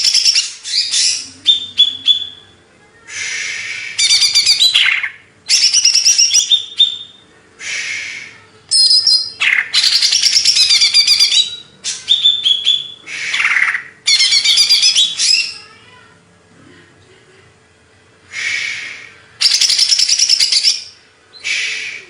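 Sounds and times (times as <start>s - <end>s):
bird singing trills and whistles: 0.0s - 15.6s, 18.4s - 22.0s.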